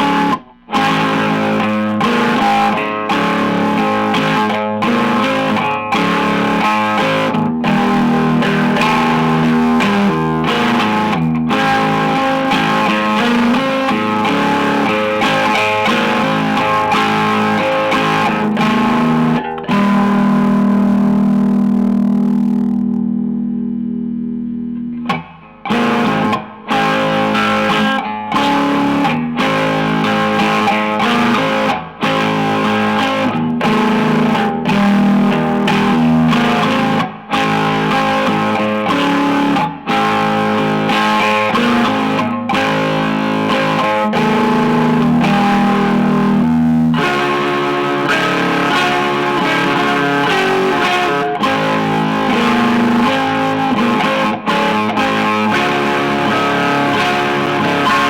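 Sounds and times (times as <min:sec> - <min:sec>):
electric guitar playing: 0:00.0 - 0:58.0.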